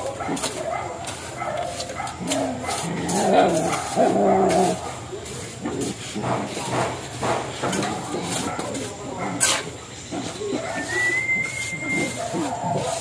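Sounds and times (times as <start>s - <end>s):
trowel scraping wet cement: 0.0s - 13.0s.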